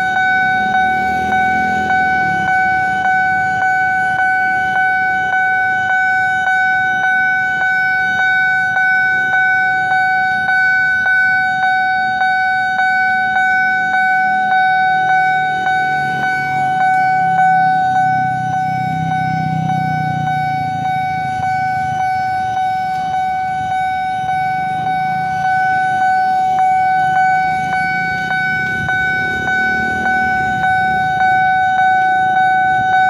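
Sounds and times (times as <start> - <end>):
level-crossing warning bell: 0.0 - 33.0.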